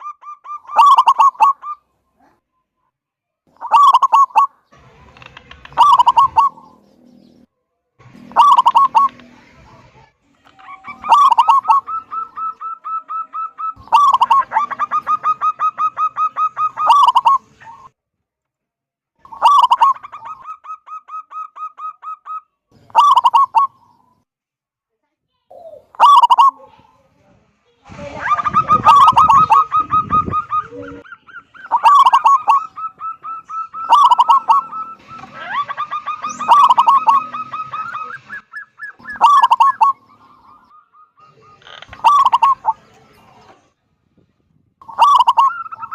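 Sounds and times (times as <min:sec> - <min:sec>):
dove cooing: 0:00.0 - 0:01.8, 0:03.5 - 0:07.5, 0:08.1 - 0:09.7, 0:10.4 - 0:17.9, 0:19.3 - 0:23.9, 0:25.6 - 0:26.7, 0:28.2 - 0:43.6, 0:44.8 - 0:45.9.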